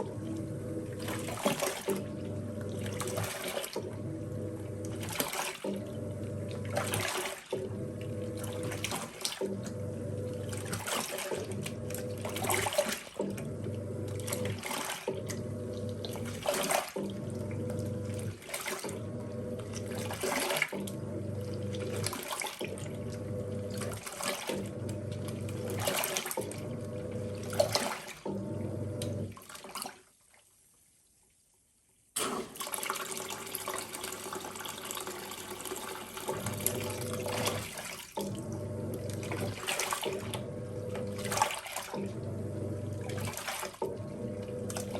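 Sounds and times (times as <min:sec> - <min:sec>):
washing machine motor humming: 0:00.0 - 0:29.6, 0:32.2 - 0:44.9
water sloshing: 0:00.0 - 0:30.4, 0:36.2 - 0:44.9.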